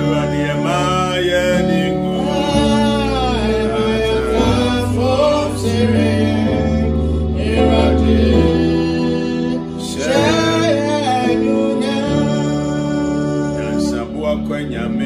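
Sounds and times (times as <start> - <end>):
held bass notes and instruments: 0.0 - 15.0
man singing gospel: 0.0 - 15.0.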